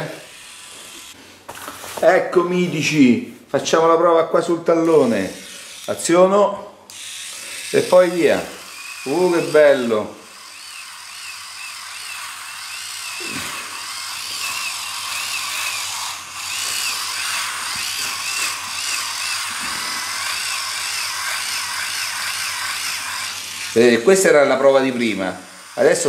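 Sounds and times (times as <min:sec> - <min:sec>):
electric callus remover whirring: 0:00.0 - 0:01.2, 0:04.9 - 0:06.1, 0:06.9 - 0:26.0.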